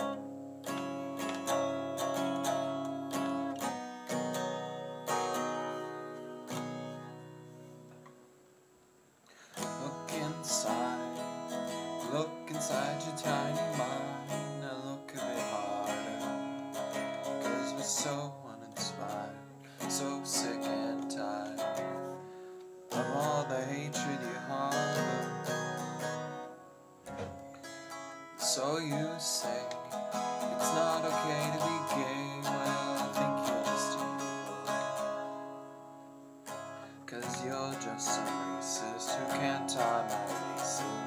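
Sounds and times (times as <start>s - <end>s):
strummed acoustic guitar music: 0.0s - 8.4s, 9.3s - 41.0s.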